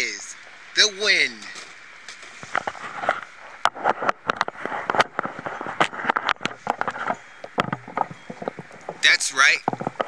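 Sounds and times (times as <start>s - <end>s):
sharp crackles and clicks: 1.4s - 10.0s.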